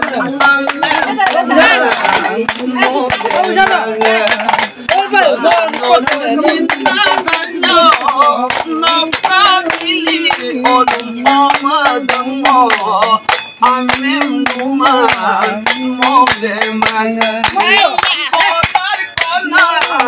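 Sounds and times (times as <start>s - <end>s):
group clapping hands: 0.0s - 20.0s
man singing folk song: 0.0s - 20.0s.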